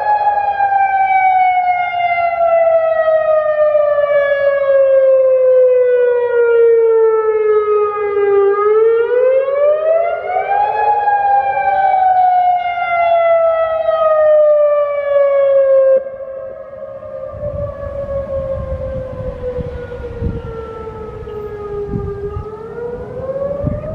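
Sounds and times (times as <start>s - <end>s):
warning siren wailing: 0.0s - 23.9s.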